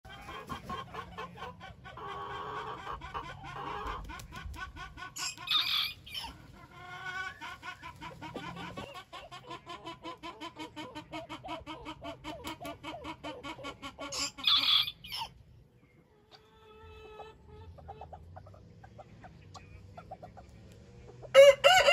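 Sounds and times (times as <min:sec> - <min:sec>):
chickens clucking and calling: 0:00.1 - 0:21.9.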